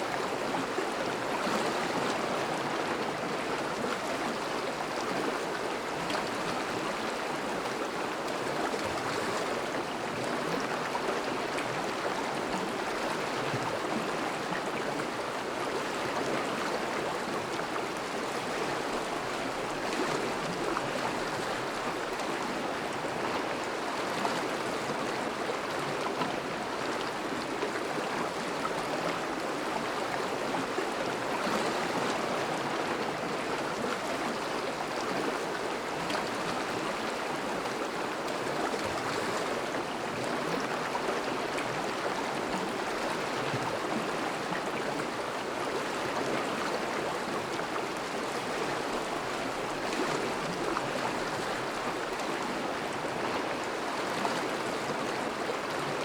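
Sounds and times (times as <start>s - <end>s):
river water rushing over ice: 0.0s - 56.0s.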